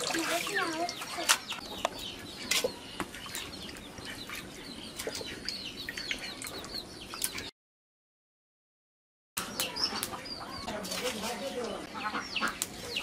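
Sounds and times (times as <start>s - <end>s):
small birds chirping: 0.0s - 7.5s, 9.4s - 13.0s.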